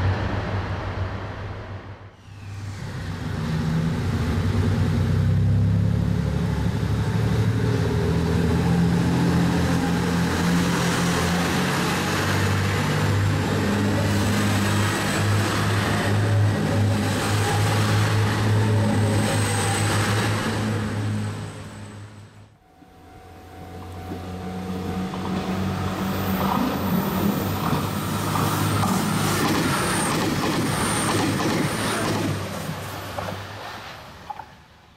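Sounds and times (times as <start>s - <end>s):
diesel train engine droning: 0.0s - 33.6s
train running noise: 5.9s - 34.7s.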